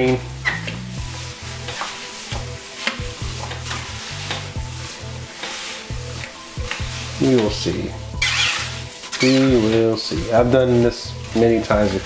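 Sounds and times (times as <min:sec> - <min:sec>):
background music with bass line: 0:00.0 - 0:12.0
short scrapes: 0:00.0 - 0:12.0
wet grain mash being stirred: 0:00.0 - 0:12.0.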